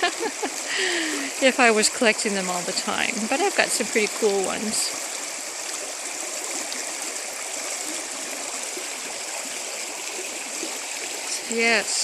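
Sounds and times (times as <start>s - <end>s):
creek water over rocks: 0.0s - 12.0s.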